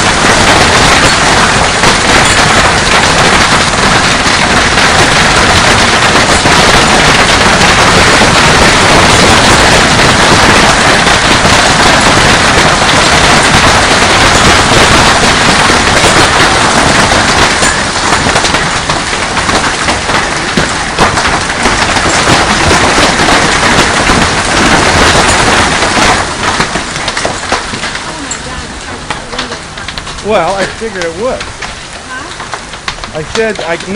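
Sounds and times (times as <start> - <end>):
hail clattering on hard surfaces: 0.0 - 33.9.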